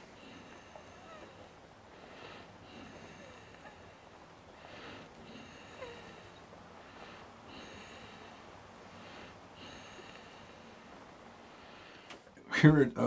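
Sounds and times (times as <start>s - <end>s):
faint breathing: 0.0s - 12.4s.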